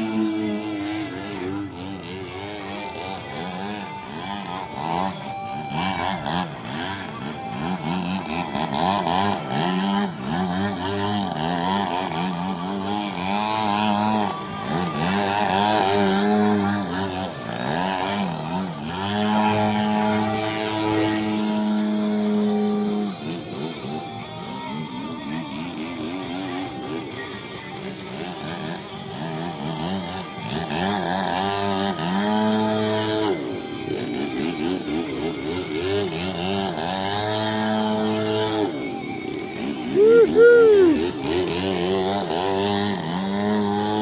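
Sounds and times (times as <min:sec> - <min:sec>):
model airplane engine: 0:00.0 - 0:44.0.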